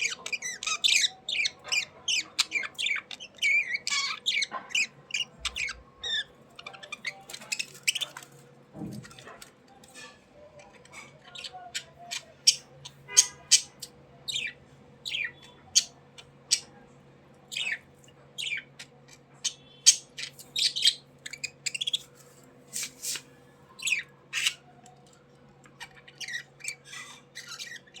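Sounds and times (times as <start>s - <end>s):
budgerigars chirping and squawking: 0.0s - 16.8s, 17.5s - 24.8s, 25.6s - 28.0s.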